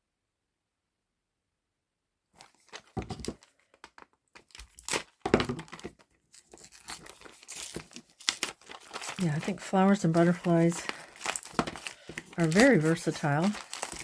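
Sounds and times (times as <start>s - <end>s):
plastic packaging crinkling: 2.4s - 14.0s.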